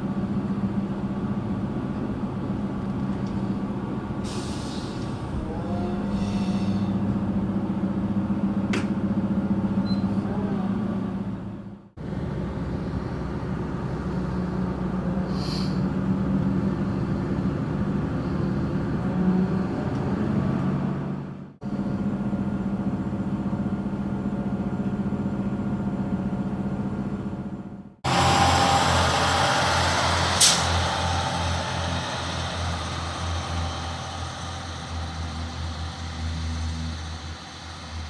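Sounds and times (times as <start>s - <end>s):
diesel railcar engine rumbling: 0.0s - 38.0s.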